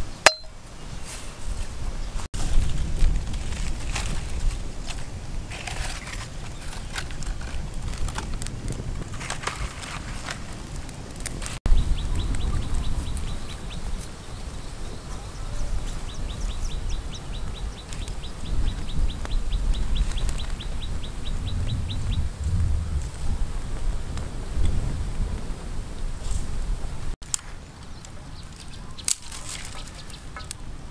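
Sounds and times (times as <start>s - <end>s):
wood fire crackling and popping: 2.4s - 14.1s, 15.8s - 30.9s.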